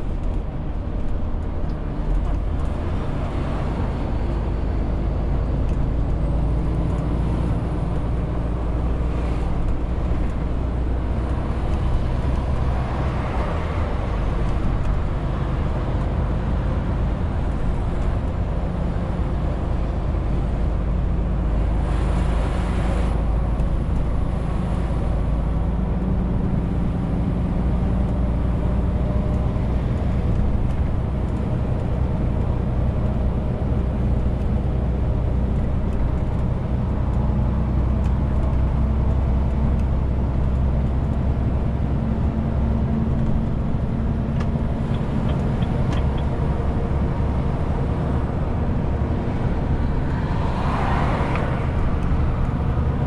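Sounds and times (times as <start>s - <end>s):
road noise: 0.0s - 53.0s
truck diesel engine drone: 0.0s - 53.0s.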